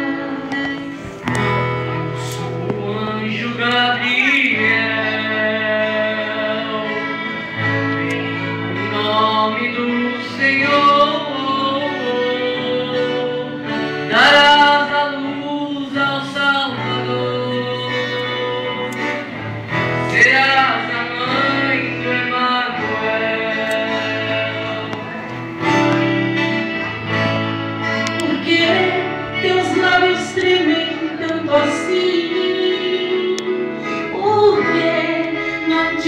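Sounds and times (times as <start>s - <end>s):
guitar: 0.0s - 36.0s
held bass notes: 0.0s - 36.0s
person singing: 0.0s - 36.0s.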